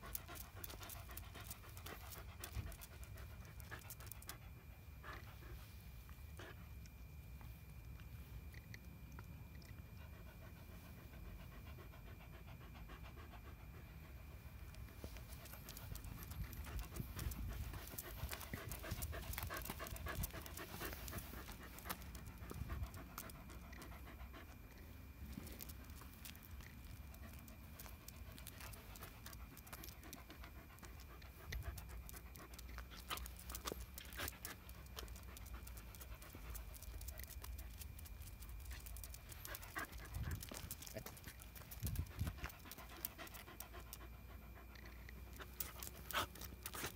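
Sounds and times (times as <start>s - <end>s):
dog panting: 0.0s - 5.8s, 9.6s - 46.9s.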